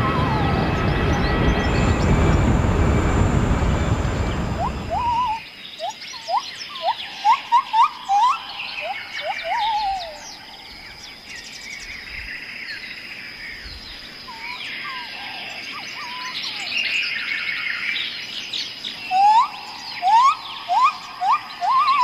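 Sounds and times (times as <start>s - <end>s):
songbirds singing and chirping: 0.0s - 22.0s.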